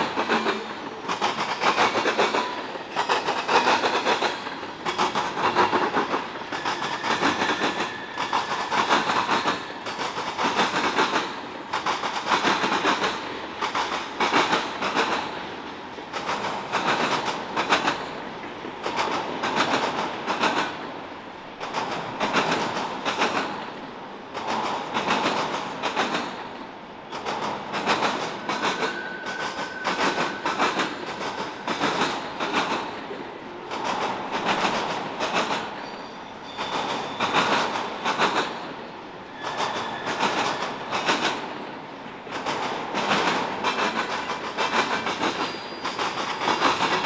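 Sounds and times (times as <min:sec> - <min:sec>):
train wheels clattering over crossing: 0:00.0 - 0:21.0, 0:21.6 - 0:47.0.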